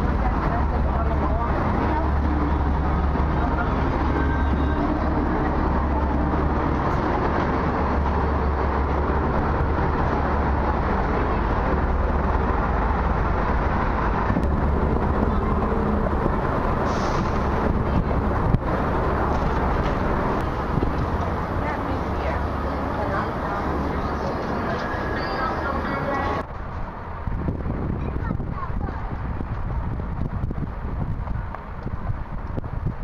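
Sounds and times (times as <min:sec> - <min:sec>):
street and traffic noise: 0:00.0 - 0:33.0
wind buffeting microphone: 0:00.0 - 0:33.0.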